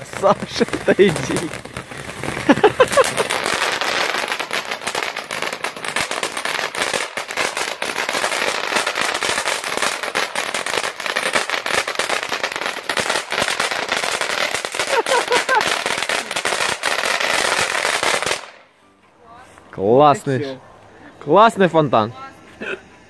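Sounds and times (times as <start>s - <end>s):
rapid crackling pops: 0.0s - 18.6s
firework fountain hissing sparks: 0.0s - 18.7s.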